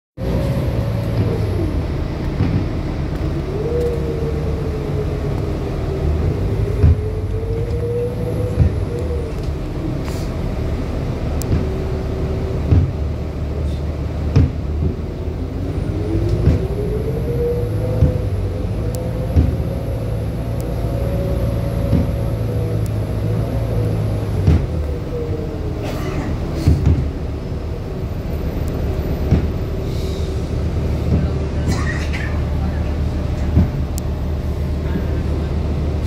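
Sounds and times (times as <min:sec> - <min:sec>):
bus engine and cabin noise: 0:00.2 - 0:36.0
drivetrain whine: 0:00.2 - 0:36.0.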